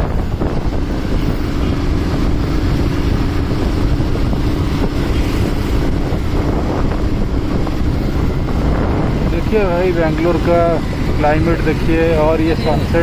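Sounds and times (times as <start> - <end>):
motorbike engine hum: 0.0 - 13.0
wind on microphone: 0.0 - 13.0.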